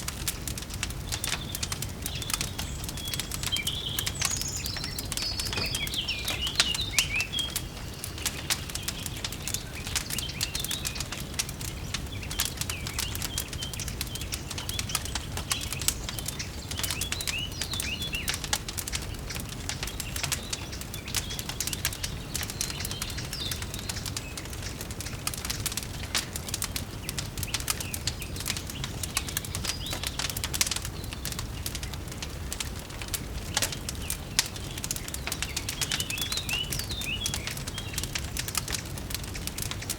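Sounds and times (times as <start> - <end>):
wood fire crackling: 0.0 - 39.9
birds chirping: 0.1 - 39.9.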